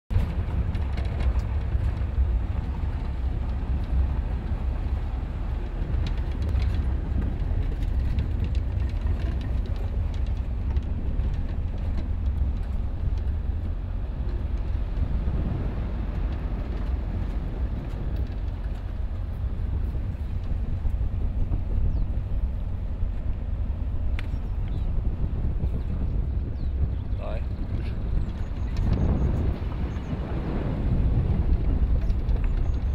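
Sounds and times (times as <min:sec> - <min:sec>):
vehicle engine and road rumble: 0:00.1 - 0:32.9.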